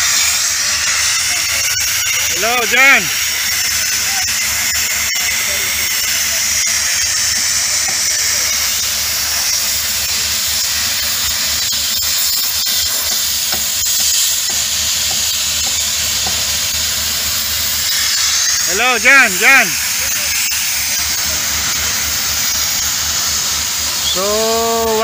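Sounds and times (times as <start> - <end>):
heavy machinery high hiss: 0.0 - 25.0.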